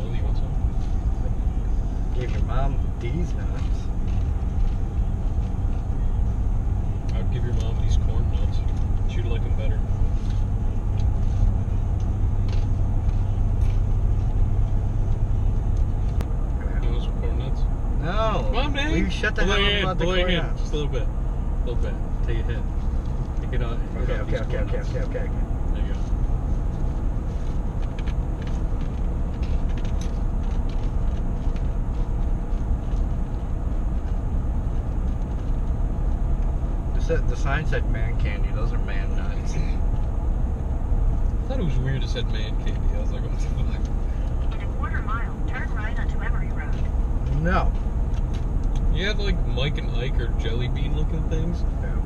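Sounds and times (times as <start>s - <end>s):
road and engine rumble: 0.0s - 52.0s.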